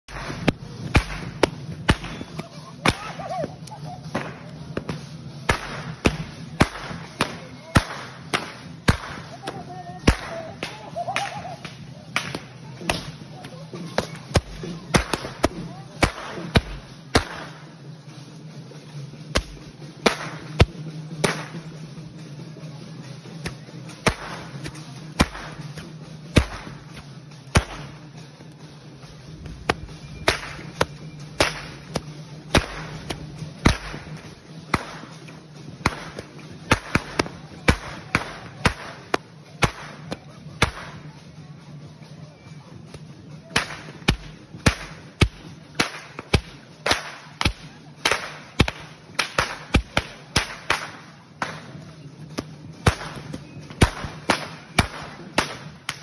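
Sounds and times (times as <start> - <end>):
whips cracking: 0.1 - 17.7, 19.2 - 22.3, 23.1 - 28.0, 29.4 - 41.2, 43.0 - 56.0.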